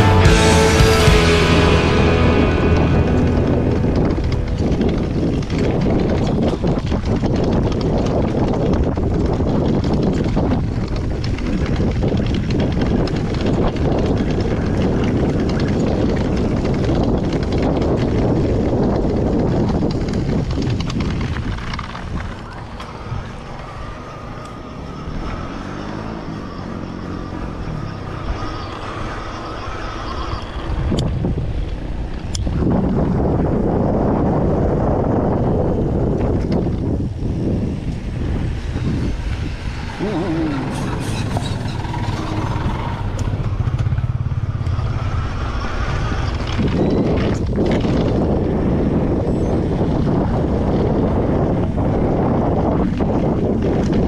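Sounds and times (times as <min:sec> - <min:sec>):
wind rushing over microphone: 0:00.0 - 0:54.0
mountain bike rattling over rocks: 0:03.0 - 0:34.8, 0:40.8 - 0:54.0.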